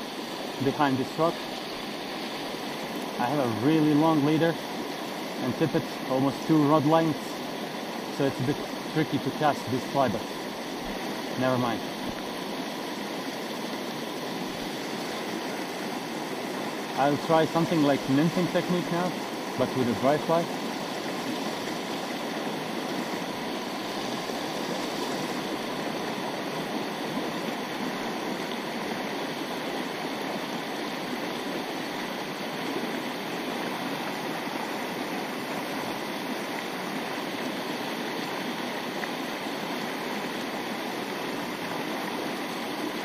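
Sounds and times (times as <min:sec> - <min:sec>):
river rushing over rocks: 0:00.0 - 0:43.0.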